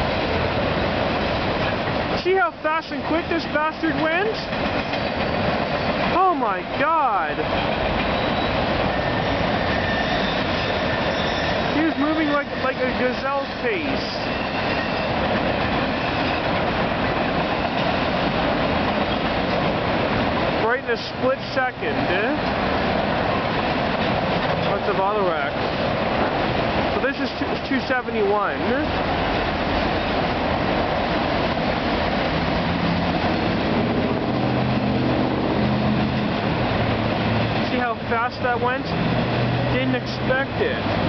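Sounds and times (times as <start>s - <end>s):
freight train wheels rolling: 0.0s - 41.0s.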